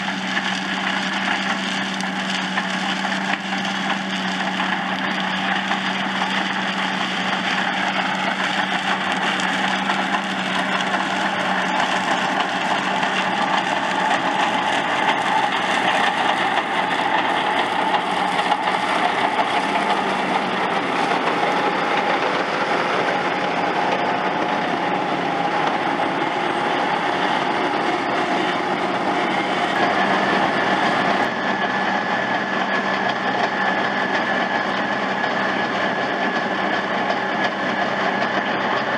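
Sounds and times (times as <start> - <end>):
steady high whine: 0.0 - 38.9
tractor engine and harvester machinery: 0.0 - 38.9.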